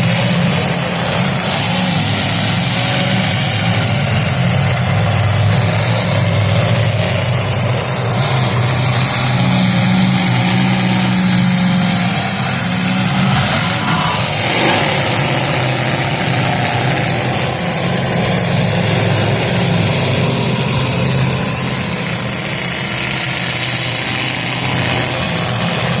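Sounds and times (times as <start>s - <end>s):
car engines droning and revving: 0.0s - 26.0s.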